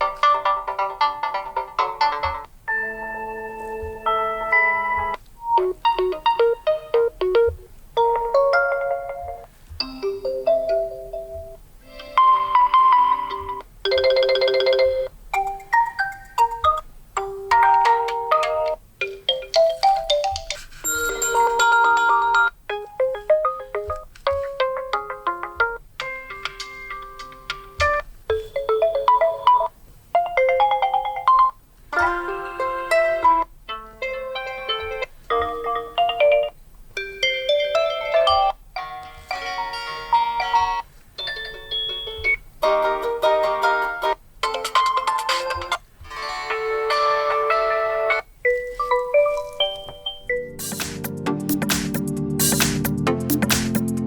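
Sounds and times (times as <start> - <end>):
phone alarm melodies: 2.2 - 33.5, 34.3 - 42.5, 46.9 - 50.9.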